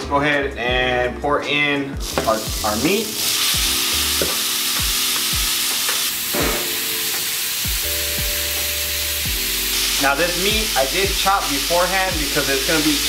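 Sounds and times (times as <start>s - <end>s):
meat sizzling on a griddle: 2.0s - 13.0s.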